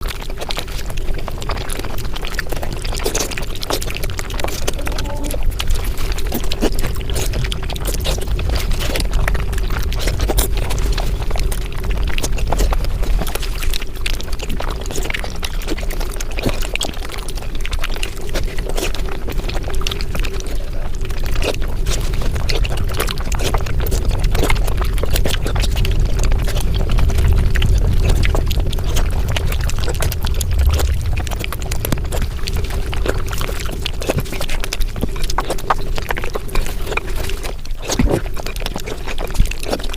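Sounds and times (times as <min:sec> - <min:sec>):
rapid chewing clicks: 0:00.0 - 0:39.9
low rumble: 0:00.9 - 0:38.6.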